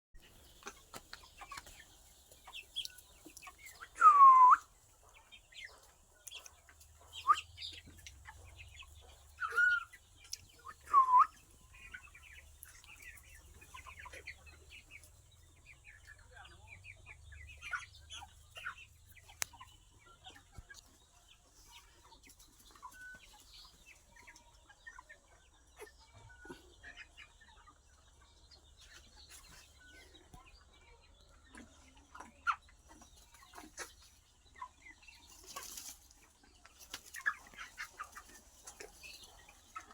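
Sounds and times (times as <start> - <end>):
chicks peeping: 0.2 - 39.9.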